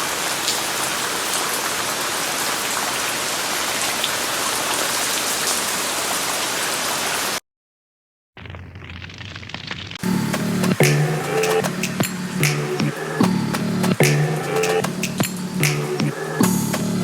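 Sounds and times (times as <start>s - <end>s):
steady rain falling: 0.0s - 7.4s, 10.0s - 17.0s.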